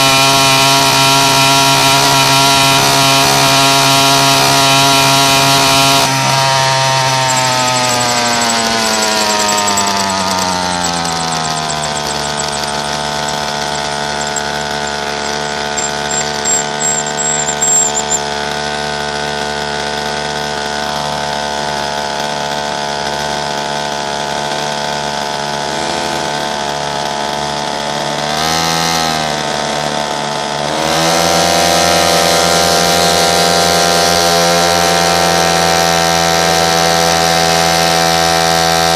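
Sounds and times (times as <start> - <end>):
small motorbike engine revving: 0.0 - 38.9.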